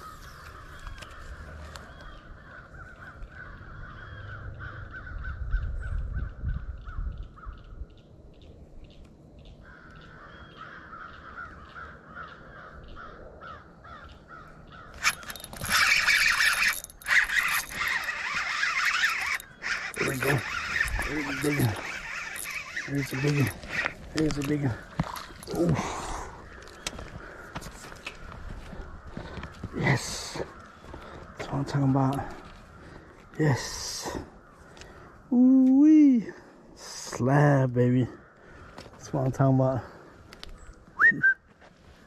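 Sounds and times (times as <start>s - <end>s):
crows cawing: 0.0s - 7.8s, 9.6s - 35.4s, 38.0s - 40.4s.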